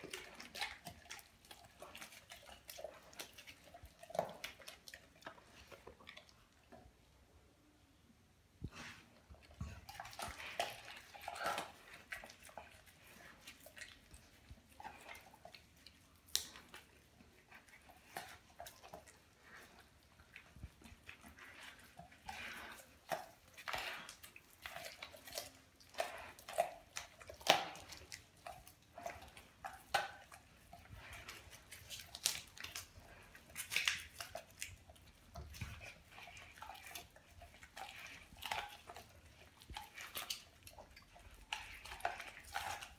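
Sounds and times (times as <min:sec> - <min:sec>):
dog crunching on fish: 0:00.0 - 0:07.0, 0:08.7 - 0:42.9.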